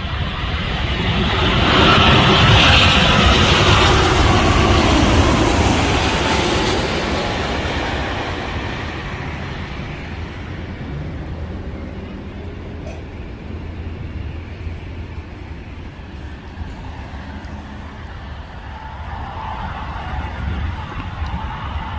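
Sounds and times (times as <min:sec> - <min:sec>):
jet airliner passing overhead: 0:00.0 - 0:21.9.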